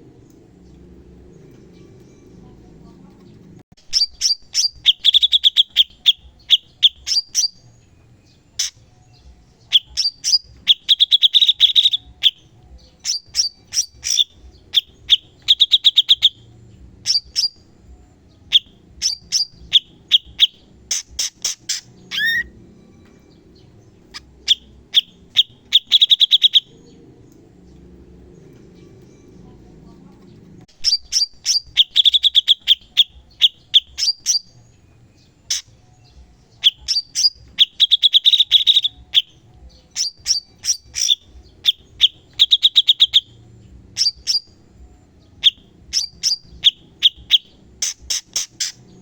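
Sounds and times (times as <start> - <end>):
bulbul singing chirps and trills: 0.0 - 49.0.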